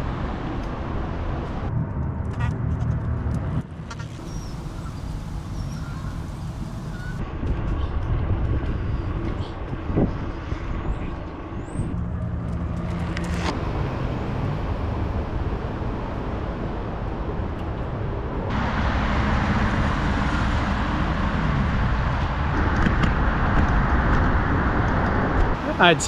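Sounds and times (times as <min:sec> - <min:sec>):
passing traffic rushing: 0:00.0 - 0:07.2, 0:11.4 - 0:26.0
vehicle engine humming: 0:00.0 - 0:07.2, 0:11.8 - 0:26.0
steady low rumble: 0:00.0 - 0:26.0.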